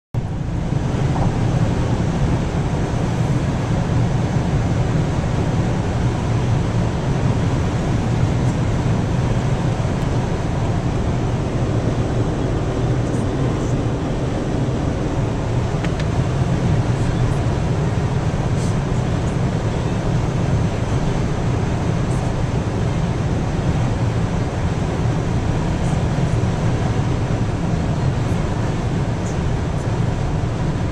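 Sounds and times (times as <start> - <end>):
car cabin road and wind noise: 0.2 - 30.9.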